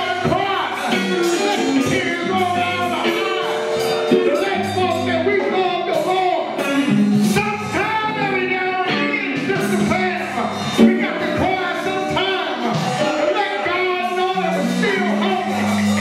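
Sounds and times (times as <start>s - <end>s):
low keyboard notes: 0.0s - 16.0s
person singing: 0.0s - 16.0s.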